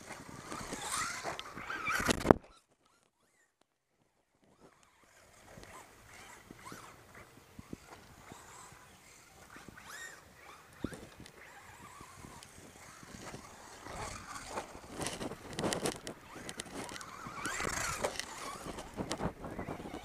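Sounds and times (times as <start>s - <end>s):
tyres on dirt: 0.0s - 3.4s, 4.3s - 20.0s
rc car motor whining: 0.0s - 3.6s, 4.4s - 20.0s.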